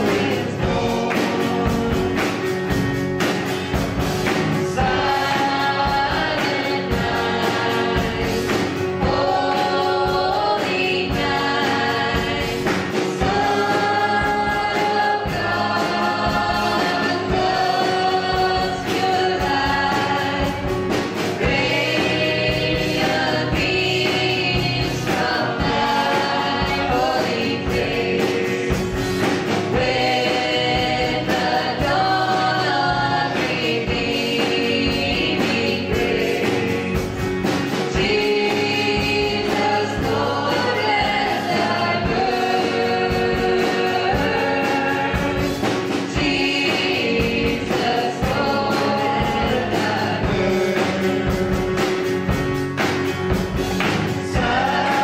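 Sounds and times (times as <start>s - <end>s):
worship band singing a hymn: 0.0s - 55.0s.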